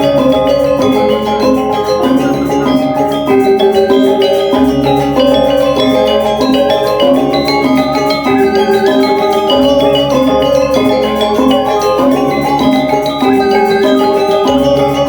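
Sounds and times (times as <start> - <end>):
gamelan metallophones ringing: 0.0 - 15.0.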